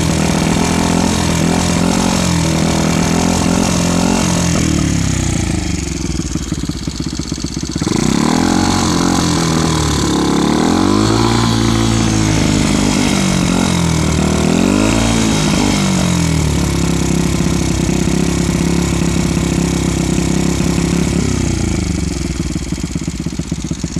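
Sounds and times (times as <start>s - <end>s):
small motorcycle engine revving: 0.0s - 23.9s.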